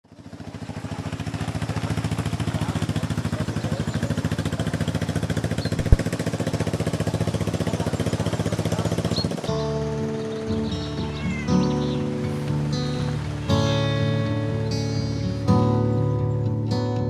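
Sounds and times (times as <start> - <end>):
engine running with rapid beat: 0.1 - 17.0.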